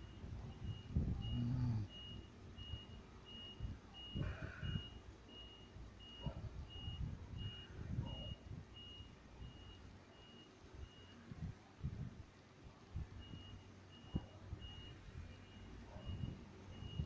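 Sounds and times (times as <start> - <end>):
reversing alarm beeping: 0.0 - 11.3, 13.2 - 17.0.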